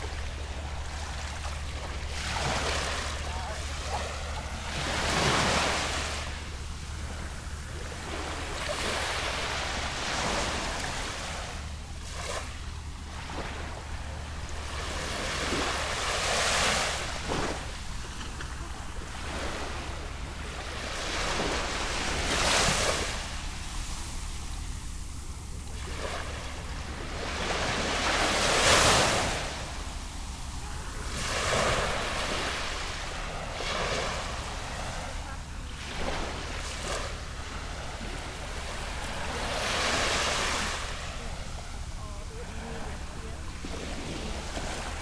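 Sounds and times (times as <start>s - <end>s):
small waves washing onto beach: 0.0s - 45.0s
steady low rumble: 0.0s - 45.0s.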